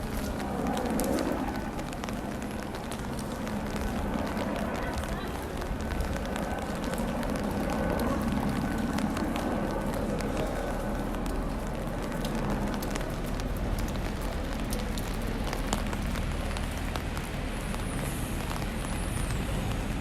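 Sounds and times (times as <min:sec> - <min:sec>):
rain pattering on an umbrella: 0:00.0 - 0:20.0.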